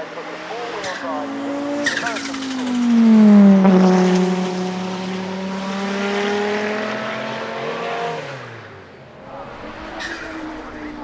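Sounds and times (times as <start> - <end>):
race car engine pulling away: 0.0 - 11.0.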